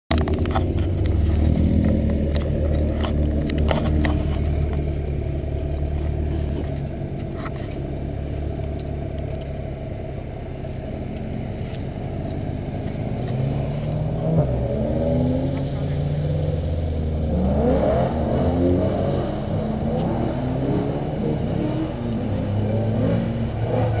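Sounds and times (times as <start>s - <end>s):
car engine running: 0.1s - 24.0s.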